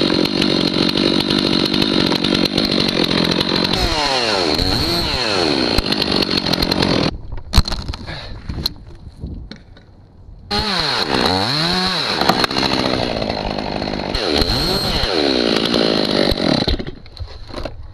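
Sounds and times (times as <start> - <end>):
chainsaw cutting wood: 0.0 - 7.8, 10.5 - 17.8.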